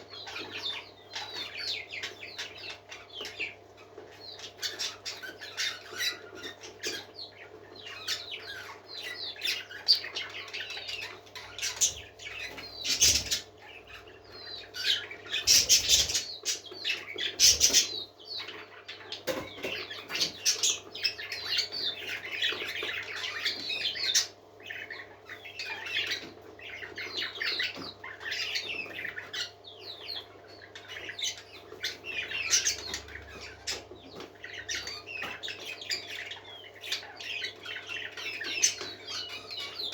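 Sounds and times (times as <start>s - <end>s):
parakeets chattering: 0.0s - 39.9s.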